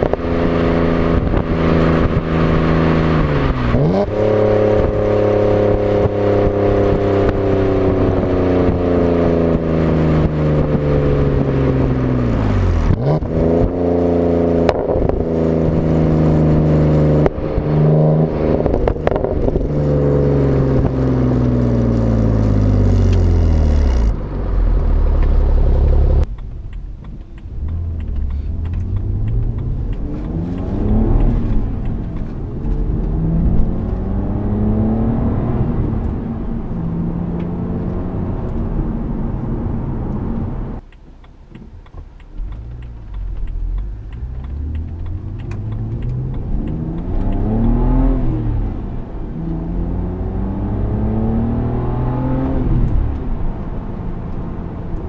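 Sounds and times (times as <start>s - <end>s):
car engine and exhaust revving: 0.0s - 55.0s.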